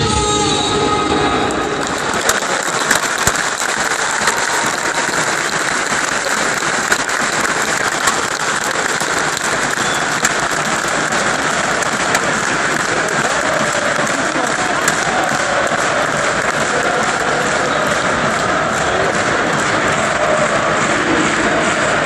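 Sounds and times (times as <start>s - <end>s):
crowd applauding: 1.3s - 22.0s
sharp nearby claps: 1.8s - 22.0s.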